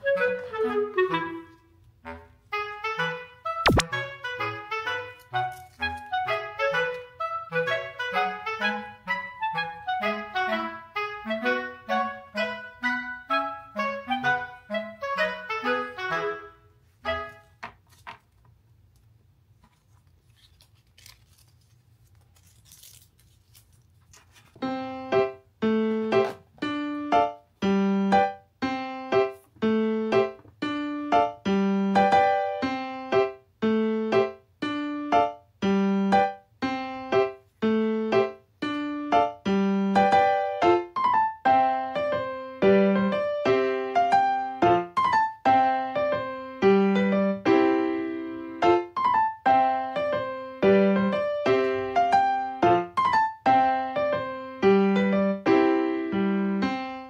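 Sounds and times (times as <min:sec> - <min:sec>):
simple piano tune: 0:00.0 - 0:17.6, 0:24.6 - 0:57.0.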